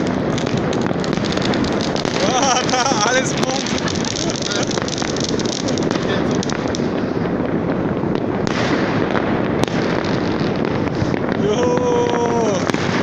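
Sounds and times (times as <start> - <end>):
fireworks crackling: 0.0 - 13.0
sharp firework cracks: 0.0 - 13.0.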